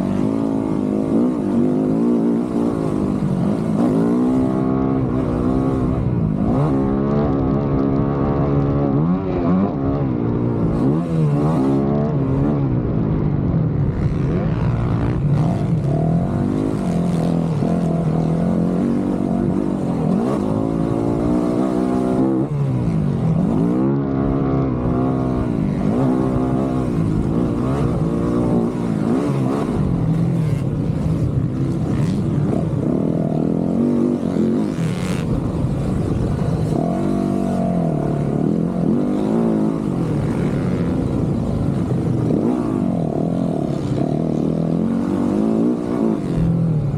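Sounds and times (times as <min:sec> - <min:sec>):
dirt bike engine revving: 0:00.0 - 0:13.0, 0:13.9 - 0:46.9.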